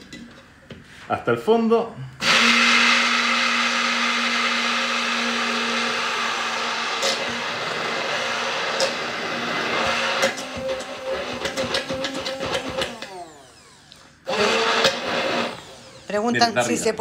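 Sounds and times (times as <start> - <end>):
immersion blender whirring: 2.2 - 17.0.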